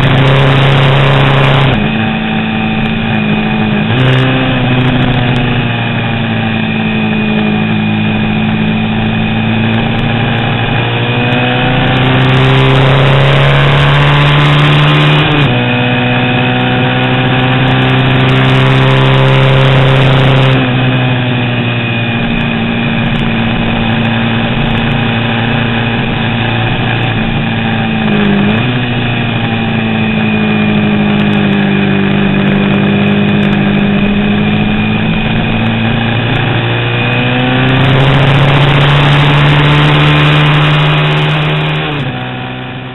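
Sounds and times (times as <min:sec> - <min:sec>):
racing motorcycle engine: 0:00.0 - 0:42.9.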